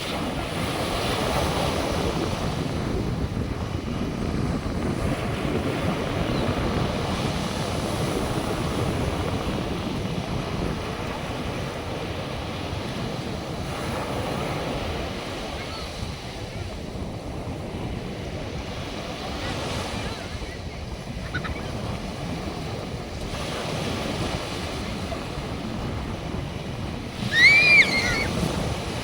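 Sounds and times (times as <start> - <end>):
surf washing onto beach: 0.0 - 29.0
wind buffeting microphone: 0.0 - 29.0.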